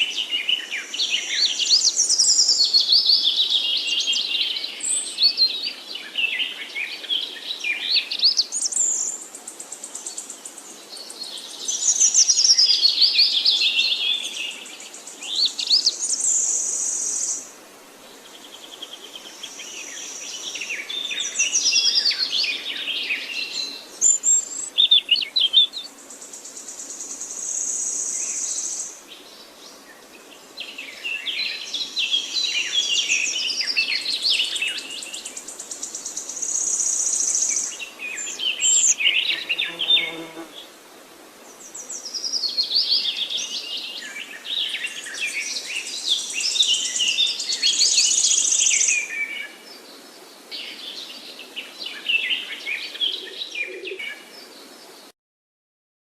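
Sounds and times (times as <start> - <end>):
songbirds singing with trills: 0.0 - 17.5, 18.2 - 40.7, 41.4 - 55.1.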